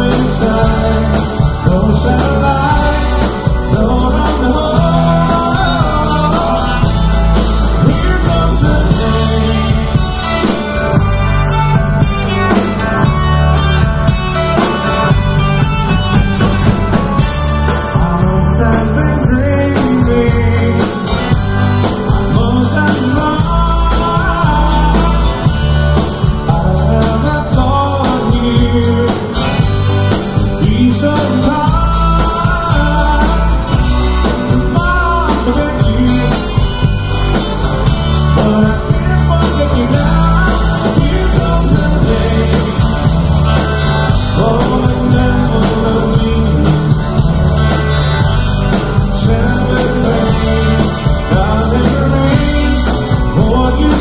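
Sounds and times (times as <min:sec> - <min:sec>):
man singing: 0:00.0 - 0:10.6, 0:17.2 - 0:37.4, 0:38.1 - 0:54.0
live rock band playing: 0:00.0 - 0:54.0.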